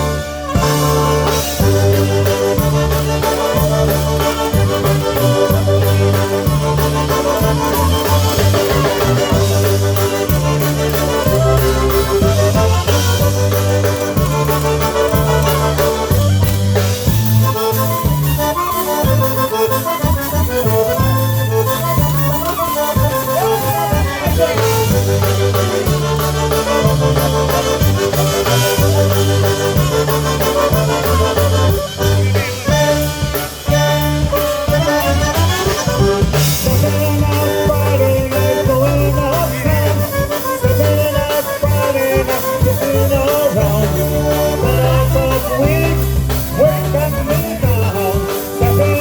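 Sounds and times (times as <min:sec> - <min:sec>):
accordion: 0:00.0 - 0:49.0
bass and drum beat: 0:00.0 - 0:49.0.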